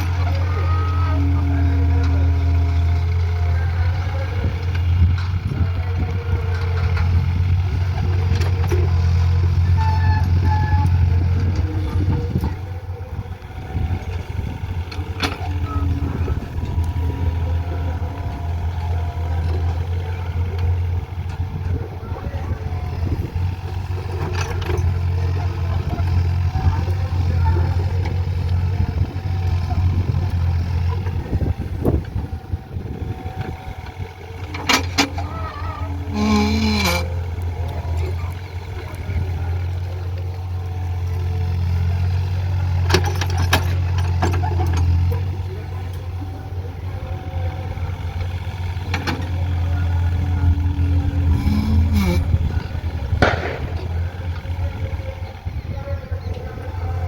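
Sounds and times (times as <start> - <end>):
digger diesel engine droning: 0.0 - 57.0.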